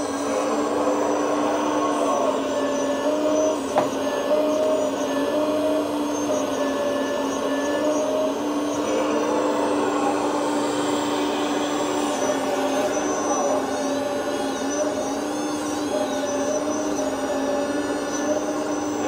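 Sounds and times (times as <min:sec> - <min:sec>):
hydraulic whine: 0:00.0 - 0:19.0
simulated diesel engine drone: 0:00.0 - 0:19.0.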